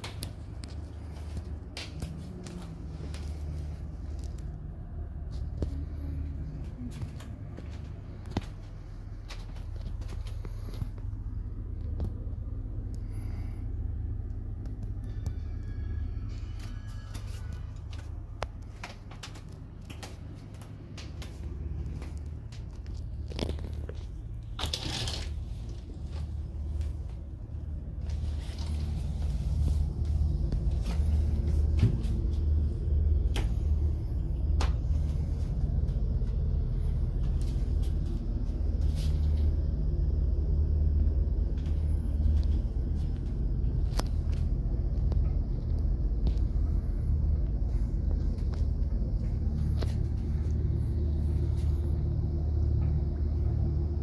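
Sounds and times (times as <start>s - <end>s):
ship engines rumbling: 0.0s - 54.0s.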